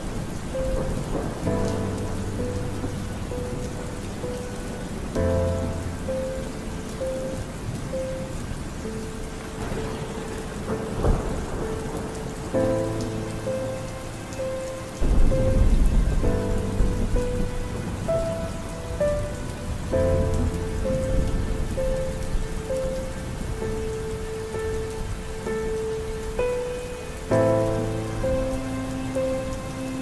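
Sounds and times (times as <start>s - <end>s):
rain on a window: 0.0s - 30.0s
soft music with held notes: 0.0s - 30.0s
thunder rumble: 0.0s - 30.0s.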